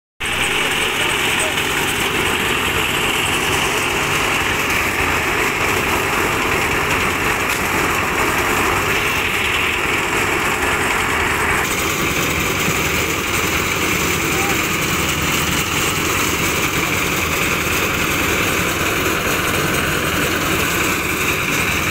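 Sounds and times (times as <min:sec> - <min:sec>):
concrete mixer engine running: 0:00.2 - 0:21.9.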